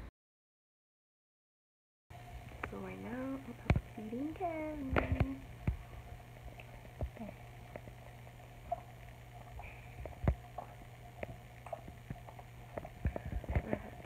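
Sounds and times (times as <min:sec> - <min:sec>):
steady low hum: 0:02.1 - 0:14.0.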